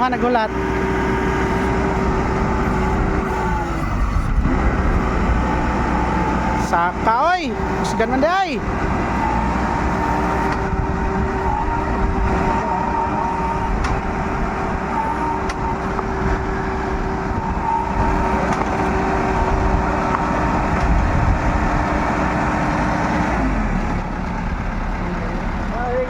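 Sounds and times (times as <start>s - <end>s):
constant whine: 0.0s - 26.0s
diesel engine running under load: 0.0s - 26.0s.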